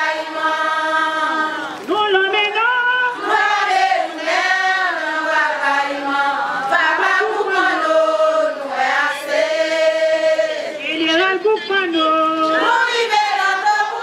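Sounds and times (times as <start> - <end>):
voices singing a chant: 0.0 - 14.0.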